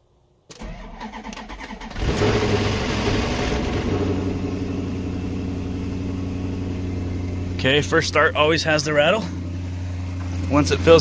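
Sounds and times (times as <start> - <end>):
car engine starting and idling: 0.5 - 11.0.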